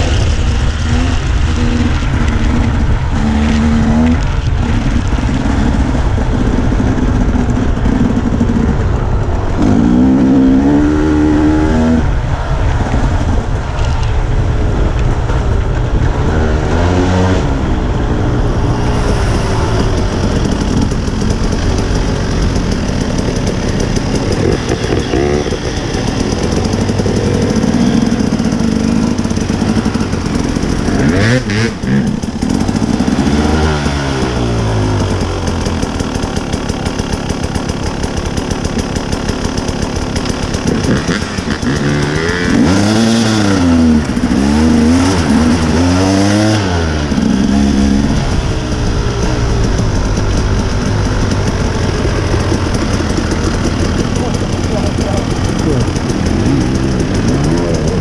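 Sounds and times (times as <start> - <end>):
dirt bike engine revving: 0.0 - 13.6, 14.7 - 58.0.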